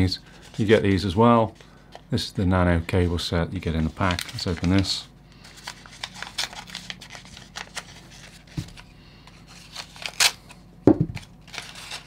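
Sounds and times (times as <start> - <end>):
paper envelope crinkling: 0.0 - 2.9, 3.6 - 12.0.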